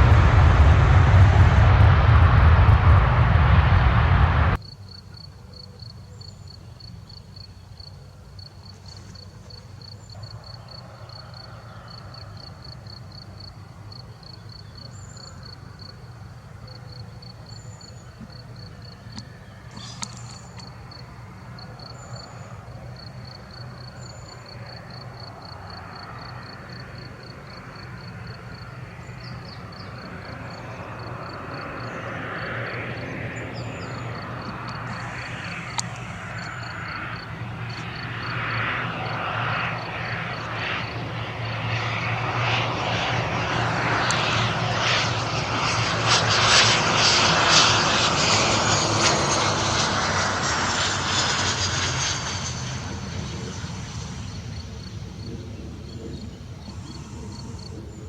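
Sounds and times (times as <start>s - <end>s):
airplane engine approaching: 0.0s - 5.0s, 7.0s - 58.0s.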